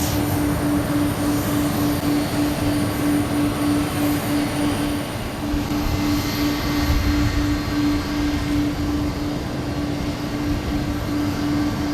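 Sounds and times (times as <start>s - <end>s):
jet engine rumble and hiss: 0.0s - 11.9s
low pulsing tone: 0.0s - 11.9s.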